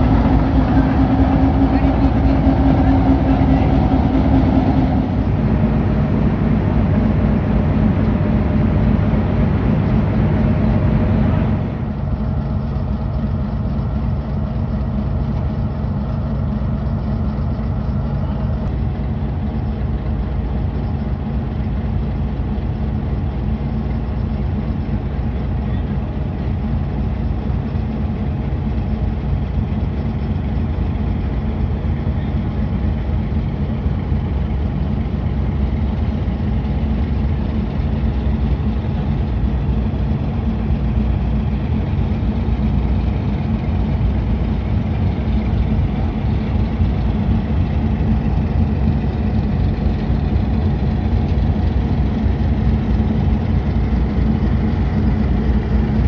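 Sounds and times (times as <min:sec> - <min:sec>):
diesel locomotive engine running: 0:00.0 - 0:56.0.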